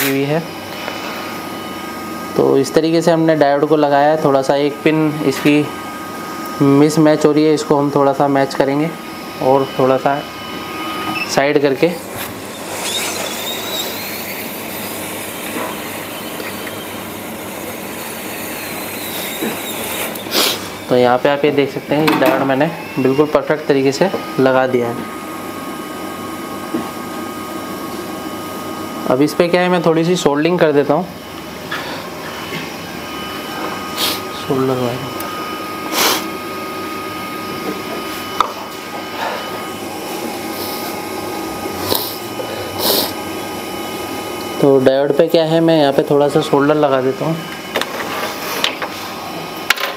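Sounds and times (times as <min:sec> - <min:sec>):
hot air station blowing: 0:00.0 - 0:49.8
fan whirring with high whine: 0:00.0 - 0:49.9.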